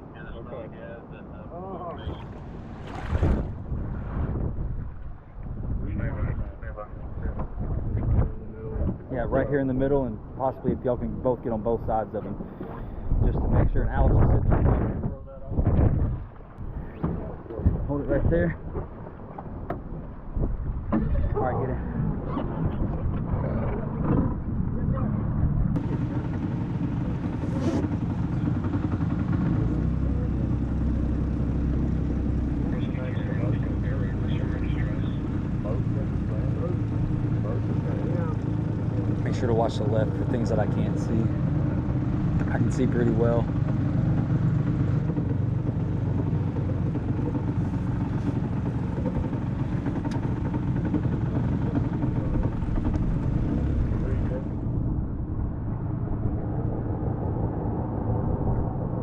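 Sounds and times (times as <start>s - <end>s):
vehicle engine low rumble: 0.0s - 59.0s.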